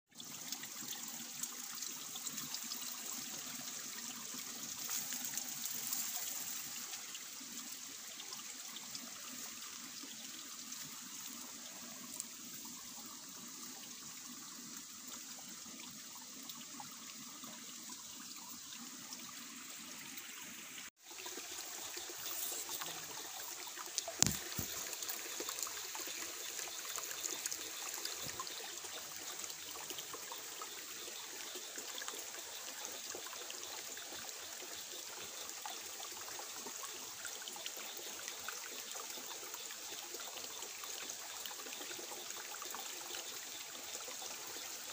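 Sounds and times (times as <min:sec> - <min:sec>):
stream trickling: 0:00.1 - 0:44.9.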